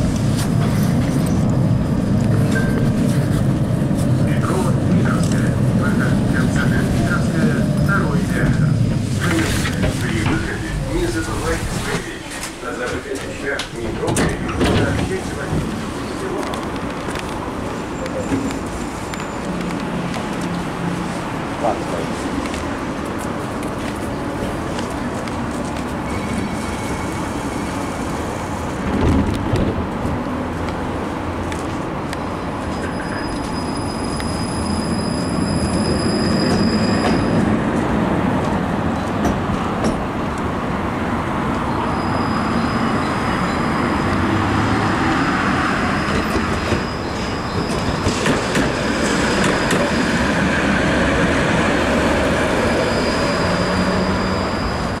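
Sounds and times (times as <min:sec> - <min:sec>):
tram rolling rumble: 0:00.0 - 0:55.0.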